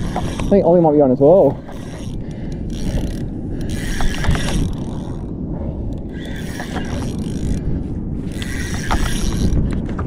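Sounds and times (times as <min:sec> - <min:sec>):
fishing reel ratcheting whir: 0:00.0 - 0:00.6, 0:01.4 - 0:05.3, 0:05.9 - 0:09.8
wind and water rumble: 0:00.0 - 0:10.0.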